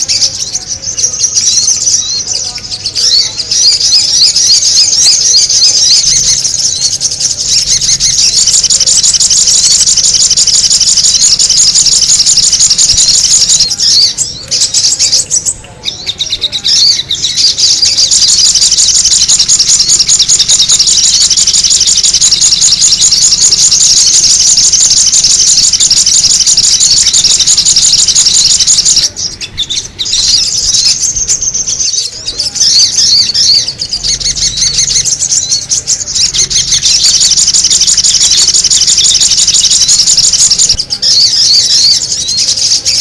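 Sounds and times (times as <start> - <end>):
high-pitched bird chirping: 0.0 - 43.0.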